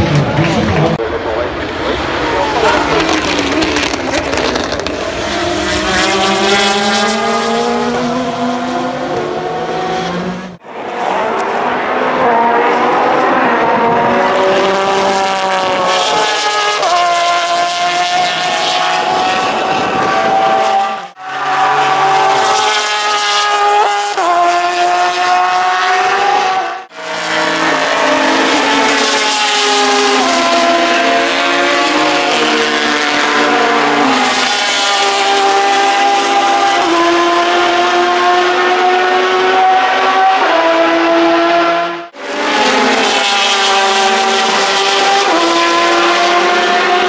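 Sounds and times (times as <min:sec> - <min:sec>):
race car engine accelerating: 0:00.0 - 0:47.0.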